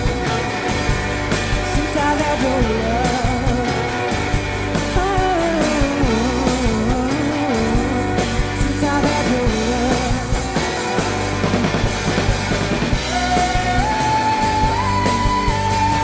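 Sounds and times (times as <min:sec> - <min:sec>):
drum kit beat: 0:00.0 - 0:16.0
electric guitars: 0:00.0 - 0:16.0.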